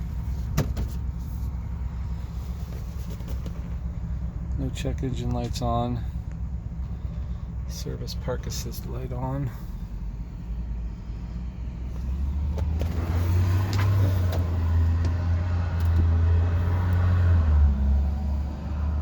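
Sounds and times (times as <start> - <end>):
pickup engine rumbling: 0.0 - 19.0.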